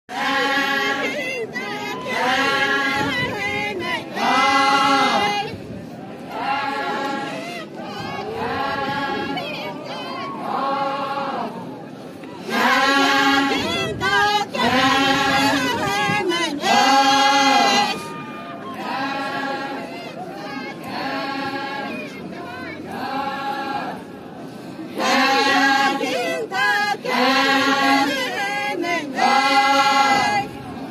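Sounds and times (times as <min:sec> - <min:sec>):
women singing in unison: 0:00.1 - 0:11.6, 0:12.4 - 0:24.1, 0:24.9 - 0:30.9.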